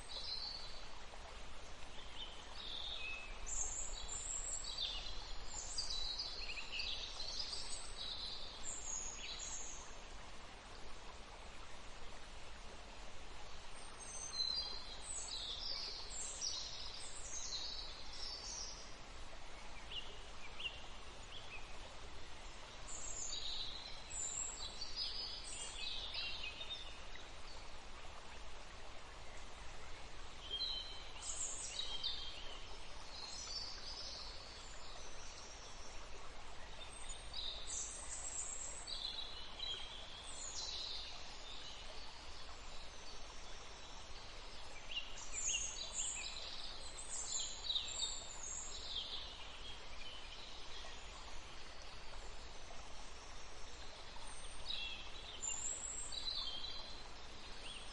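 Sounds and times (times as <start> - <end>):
soft background hiss: 0.0 - 57.9.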